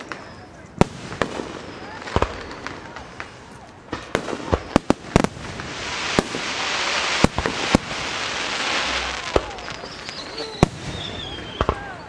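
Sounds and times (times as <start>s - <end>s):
firework hiss: 0.0s - 12.0s
firework shells bursting: 0.0s - 12.0s.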